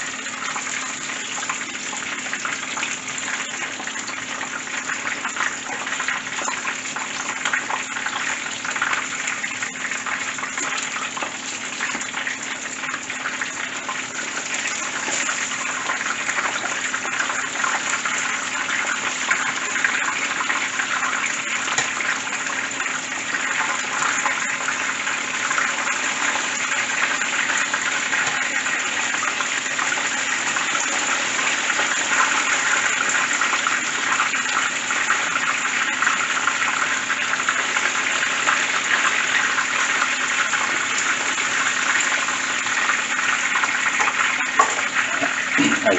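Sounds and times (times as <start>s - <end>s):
fish sizzling in hot oil: 0.0s - 45.9s.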